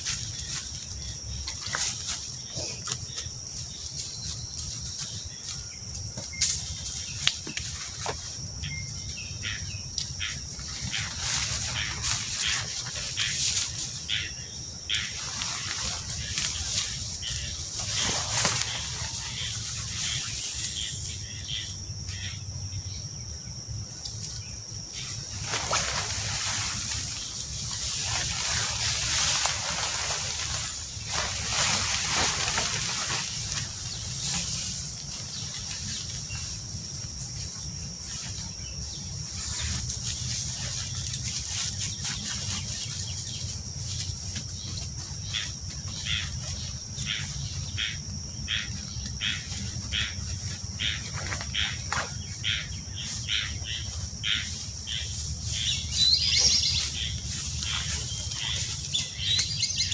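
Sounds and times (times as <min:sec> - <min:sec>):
tent fabric and poles rustling: 0:00.0 - 0:21.6, 0:24.3 - 0:59.9.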